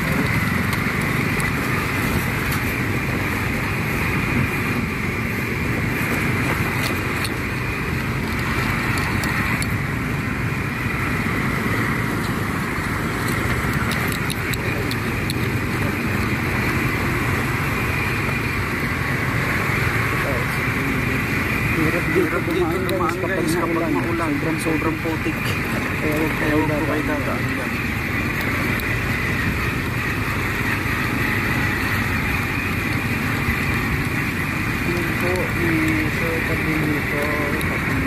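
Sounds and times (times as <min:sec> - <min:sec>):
small motorcycle engine running: 0:00.0 - 0:38.0.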